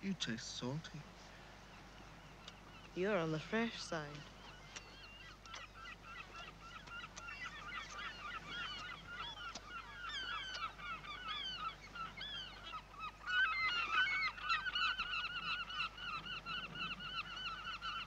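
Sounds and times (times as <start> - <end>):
flock of birds calling: 0.6 - 18.0.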